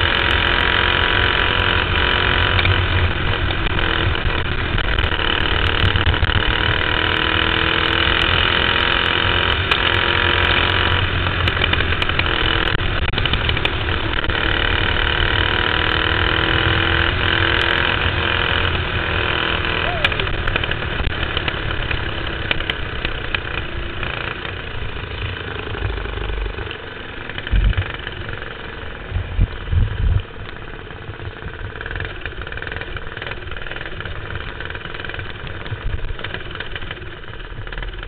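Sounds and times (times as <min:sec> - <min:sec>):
kart engine running hard: 0:00.0 - 0:38.0.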